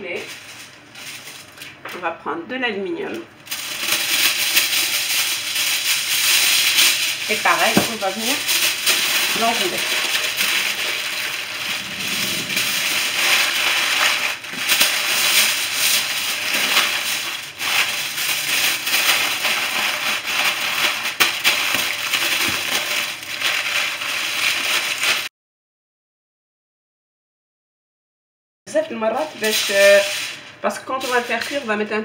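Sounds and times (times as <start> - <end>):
aluminium foil crinkling: 0.0 - 2.1, 3.0 - 25.3, 28.8 - 32.0.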